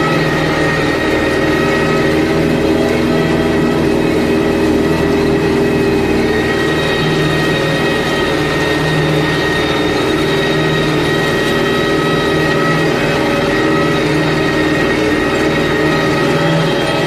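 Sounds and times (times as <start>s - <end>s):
steady high whine: 0.0s - 17.0s
tractor engine under load: 0.0s - 17.0s.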